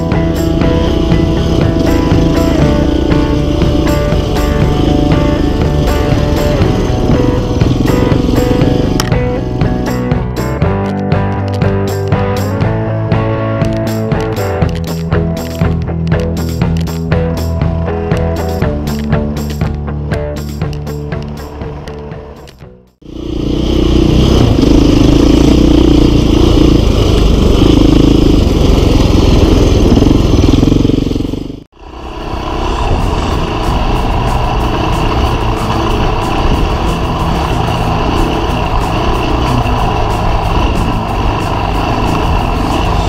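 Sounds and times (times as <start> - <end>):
dirt bike engine running: 0.0 - 43.0.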